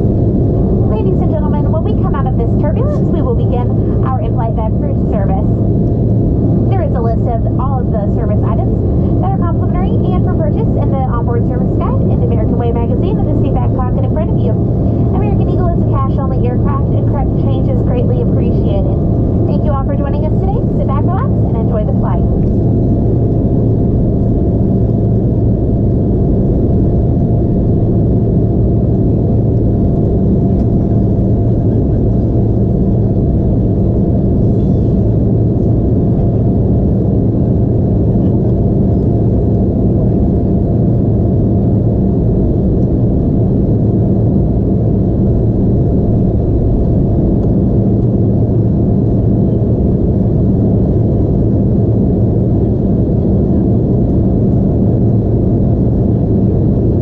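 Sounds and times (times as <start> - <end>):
jet cabin engine drone: 0.0 - 57.0.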